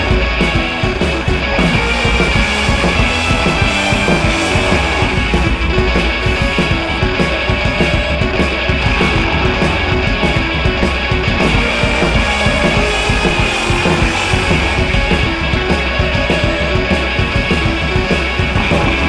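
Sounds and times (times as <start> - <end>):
rock music with electric guitar: 0.0 - 19.0.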